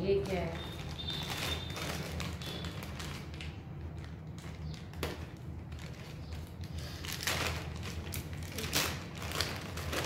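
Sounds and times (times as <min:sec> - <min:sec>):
packaging rustling and tapping: 0:00.1 - 0:10.0.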